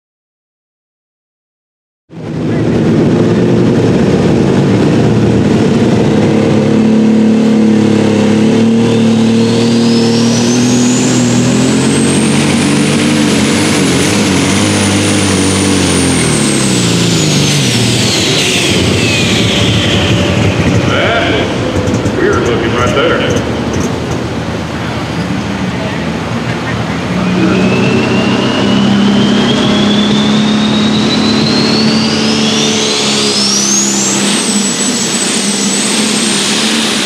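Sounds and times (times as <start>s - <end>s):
diesel engine running flat out: 2.1s - 37.0s
turbo whine: 2.1s - 37.0s.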